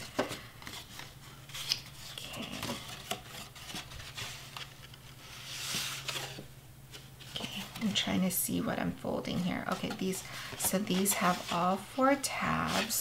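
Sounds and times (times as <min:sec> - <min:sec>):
paper rubbing and rustling: 0:00.6 - 0:08.2, 0:09.6 - 0:13.0.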